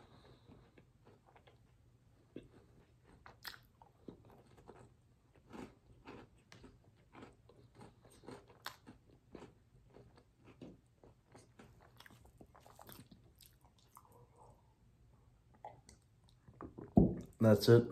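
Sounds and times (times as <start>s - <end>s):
crunchy chewing: 0.0s - 14.6s.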